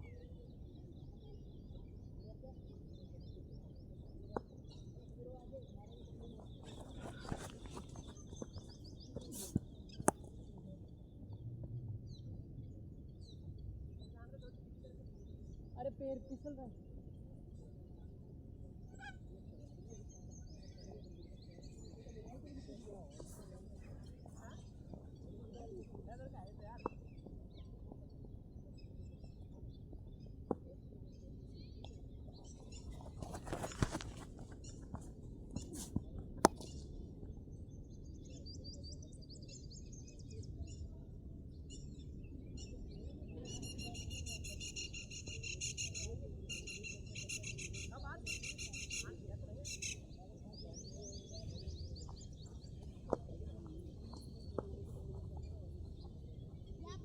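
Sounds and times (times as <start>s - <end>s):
small birds chirping: 0.0s - 11.4s, 19.0s - 57.0s
outdoor background noise: 0.0s - 57.0s.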